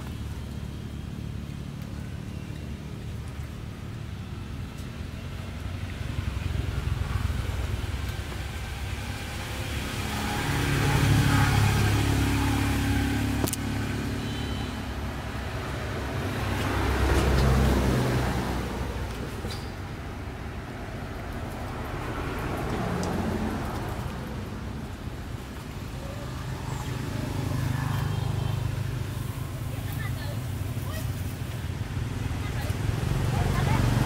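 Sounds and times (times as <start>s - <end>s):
passing traffic engine hum: 0.0s - 34.0s.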